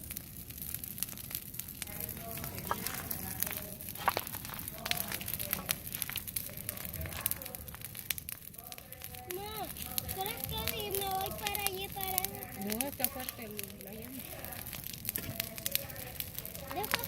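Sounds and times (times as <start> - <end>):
fire crackling and popping: 0.0 - 17.0
faint voices: 1.7 - 17.0.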